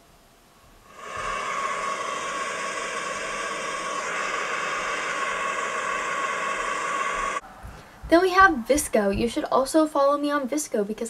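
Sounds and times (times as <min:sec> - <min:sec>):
box fan white noise hiss: 0:00.0 - 0:11.0.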